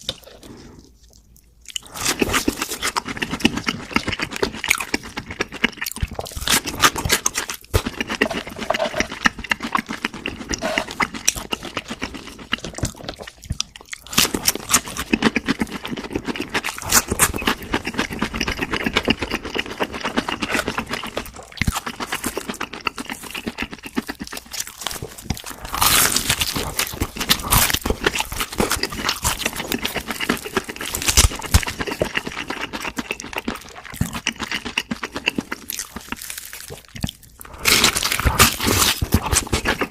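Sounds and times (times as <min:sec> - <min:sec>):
wet chewing: 0:00.0 - 0:39.9
crunching fried food: 0:01.7 - 0:39.9.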